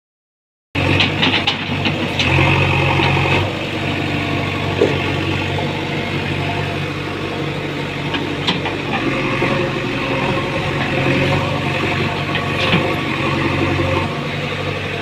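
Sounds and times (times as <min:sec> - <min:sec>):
diesel engine idling: 0:00.8 - 0:15.0.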